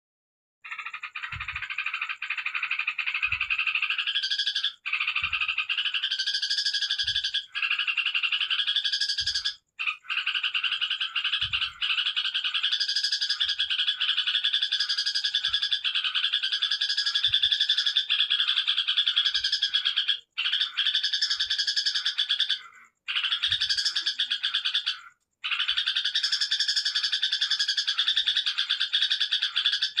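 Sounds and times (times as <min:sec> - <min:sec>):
bird chattering song: 0:00.6 - 0:30.0.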